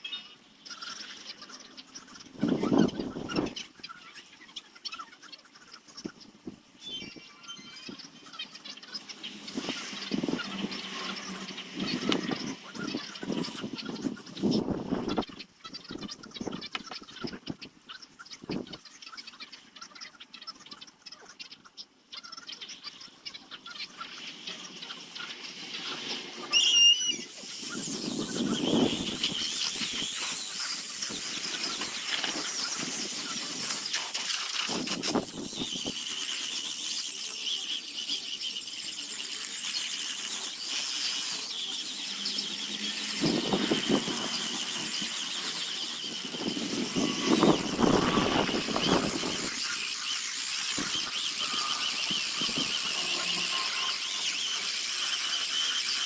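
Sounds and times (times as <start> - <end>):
rotary tool whining cutting wood: 0.1 - 4.4, 5.9 - 17.6, 22.7 - 56.0.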